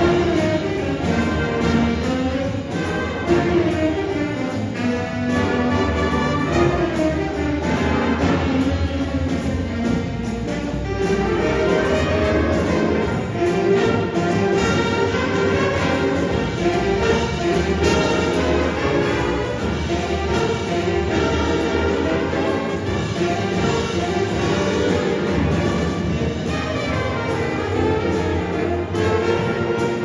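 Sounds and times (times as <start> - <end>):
jazz band playing blues with brass: 0.0 - 30.0.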